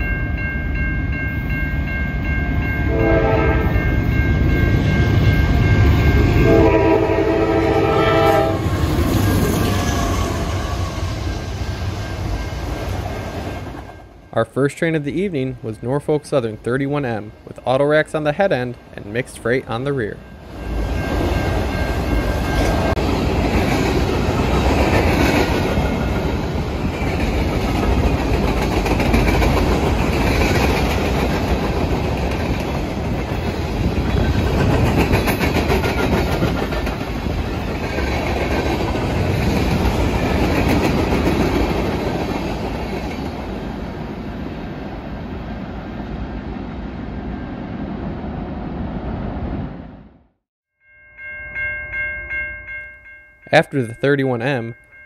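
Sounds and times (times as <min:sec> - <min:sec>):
freight train wheels rumbling: 0:00.0 - 0:49.9.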